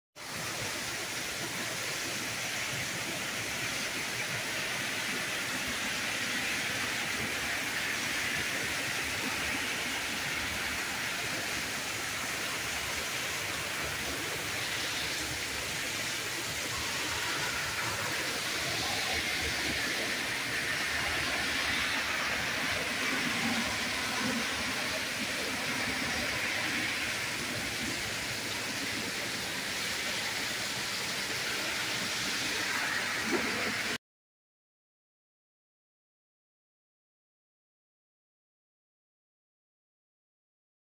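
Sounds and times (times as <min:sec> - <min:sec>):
torrential rain pouring: 0:00.2 - 0:34.0.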